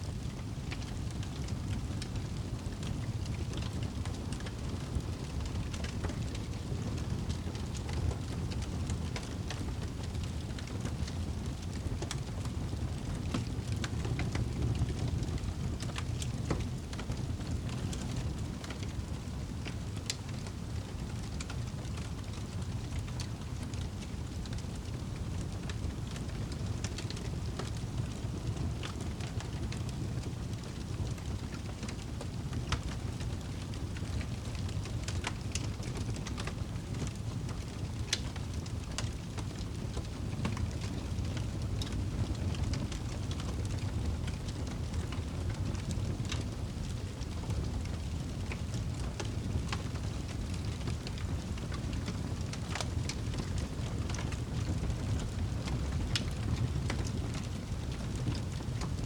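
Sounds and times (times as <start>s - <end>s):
campfire crackling and popping: 0.1s - 59.0s.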